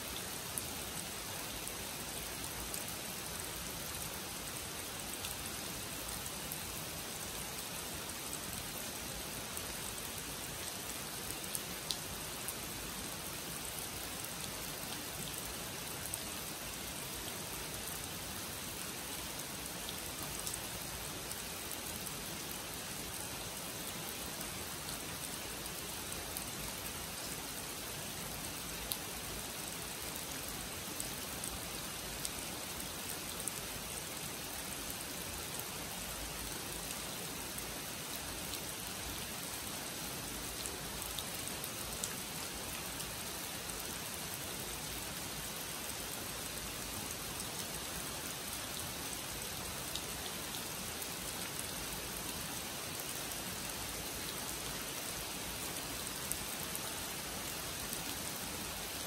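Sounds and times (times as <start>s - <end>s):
rain falling on pond and leaves: 0.0s - 59.0s.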